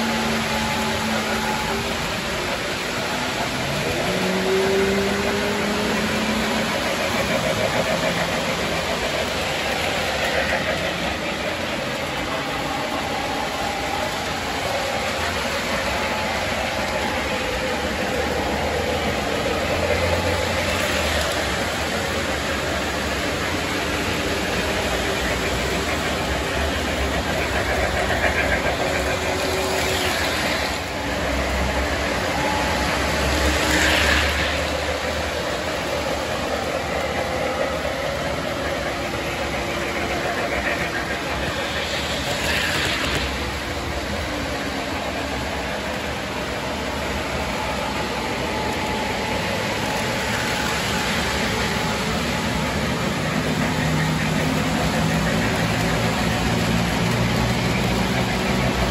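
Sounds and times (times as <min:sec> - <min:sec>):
model trains rumbling on track: 0:00.0 - 0:58.9.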